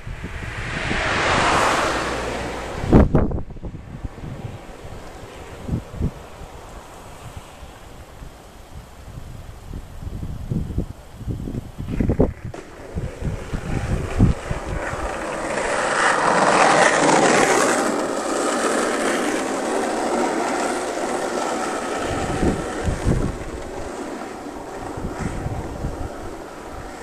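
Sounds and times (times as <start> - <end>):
skateboard wheels rolling on asphalt: 0.0 - 27.0
wind buffeting microphone: 0.0 - 27.0.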